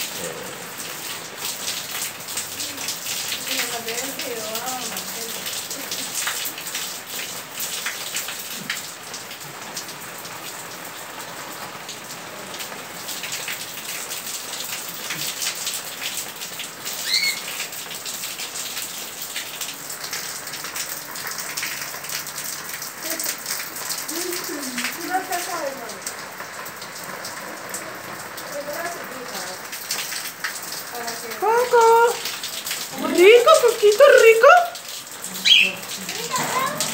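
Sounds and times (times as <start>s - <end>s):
steady rain: 0.0s - 36.9s
water dripping off roof edge: 0.0s - 36.9s.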